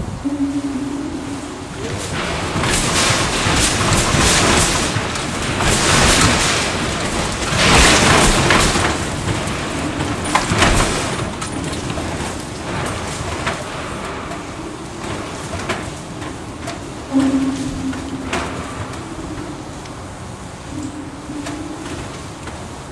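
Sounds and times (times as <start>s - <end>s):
building rumbling and rattling: 0.0s - 22.9s.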